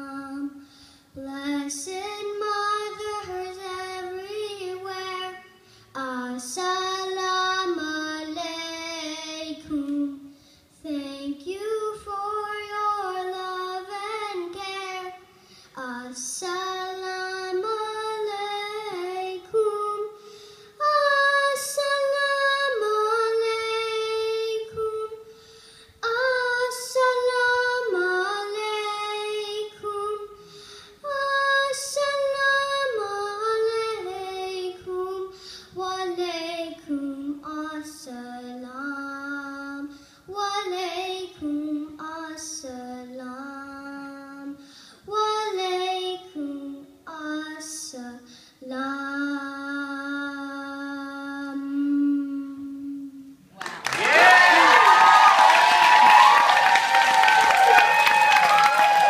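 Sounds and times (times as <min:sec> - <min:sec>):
girl singing into microphone: 0:00.0 - 0:53.6.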